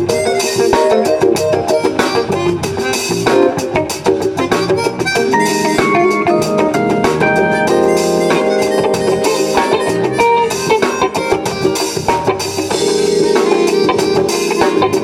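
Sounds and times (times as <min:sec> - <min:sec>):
drum kit beat: 0:00.0 - 0:15.0
funk band playing: 0:00.0 - 0:15.0
guitar: 0:00.0 - 0:15.0.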